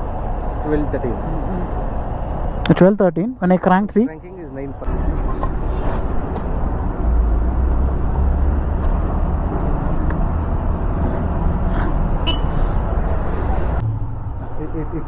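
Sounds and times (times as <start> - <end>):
motor vehicle rumble: 0.0 - 3.5, 4.1 - 15.0.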